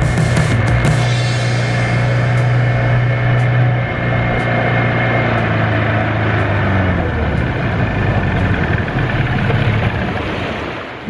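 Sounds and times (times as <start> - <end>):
outboard motor running: 0.0 - 11.0
water rushing along hull: 0.0 - 11.0.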